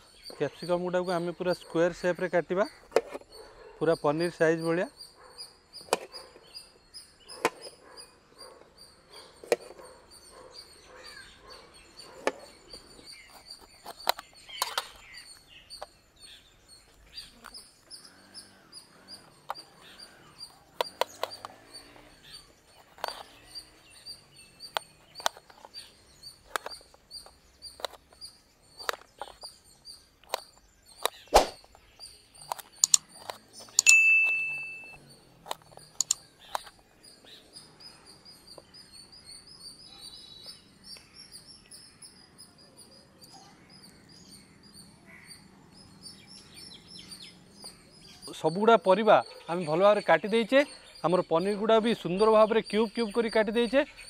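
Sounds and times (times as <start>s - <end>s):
high chirping: 0.0s - 54.0s.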